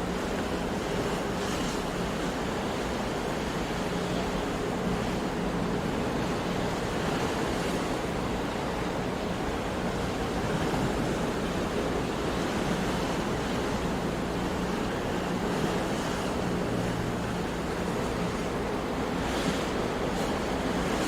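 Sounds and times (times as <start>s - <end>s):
sea waves washing: 0.0s - 21.0s.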